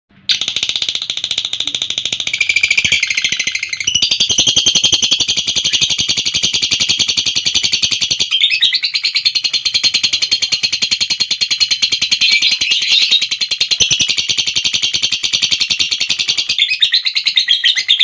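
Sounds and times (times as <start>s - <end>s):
bird chattering: 0.2s - 18.0s.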